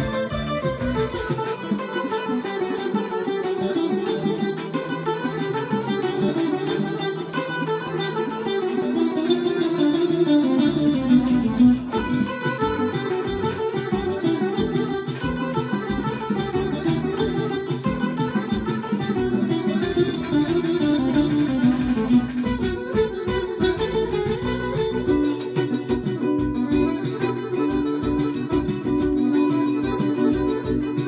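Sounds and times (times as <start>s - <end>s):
electric guitar melody: 0.0s - 31.0s.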